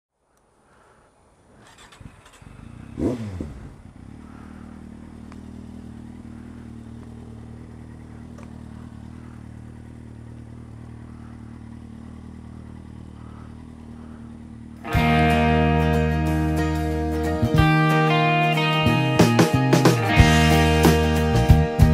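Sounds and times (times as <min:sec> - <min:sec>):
motorcycle engine starting and idling: 0:00.6 - 0:21.9.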